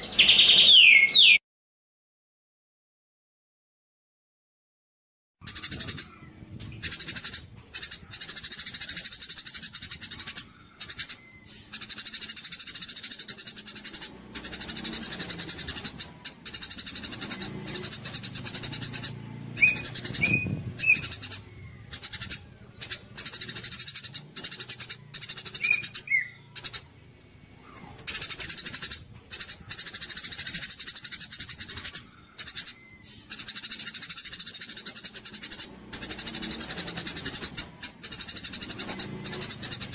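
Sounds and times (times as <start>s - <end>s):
bird whistled notes: 0.0s - 1.4s, 5.4s - 27.0s, 27.6s - 39.9s
songbird buzzy trilling: 0.0s - 1.4s, 5.4s - 39.9s.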